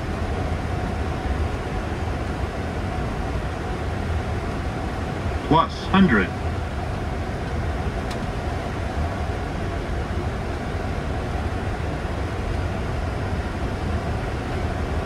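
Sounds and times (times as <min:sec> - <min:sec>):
airflow and engine noise: 0:00.0 - 0:15.0.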